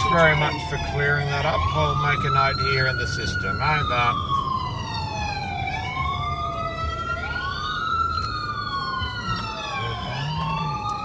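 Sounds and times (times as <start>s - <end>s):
car road noise: 0.0s - 11.0s
wailing emergency siren: 0.0s - 11.0s.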